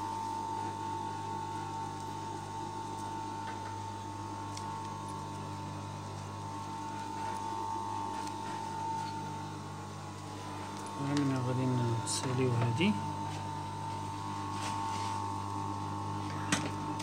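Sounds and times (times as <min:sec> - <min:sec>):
electrical hum with whine: 0:00.0 - 0:17.0.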